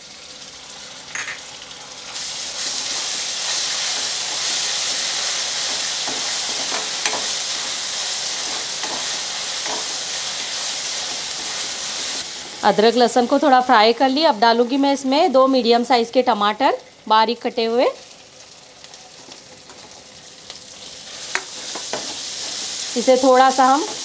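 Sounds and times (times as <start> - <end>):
paste sizzling in hot oil: 0.0 - 16.2, 17.7 - 24.0.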